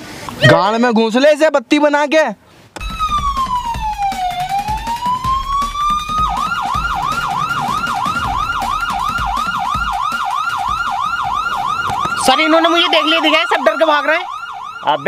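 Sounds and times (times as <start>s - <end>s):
police siren wailing and yelping: 2.8s - 15.0s.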